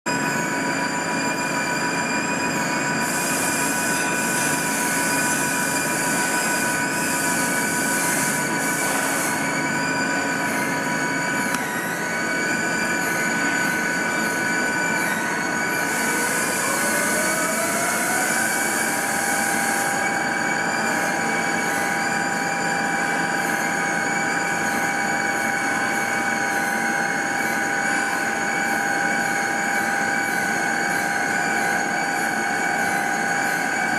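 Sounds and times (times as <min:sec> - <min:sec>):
machining centre whining: 0:00.1 - 0:33.9.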